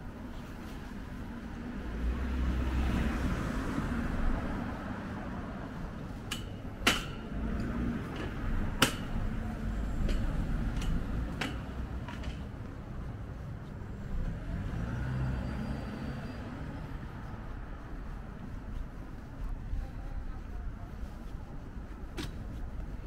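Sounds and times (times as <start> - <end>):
low traffic rumble: 0.0 - 23.0.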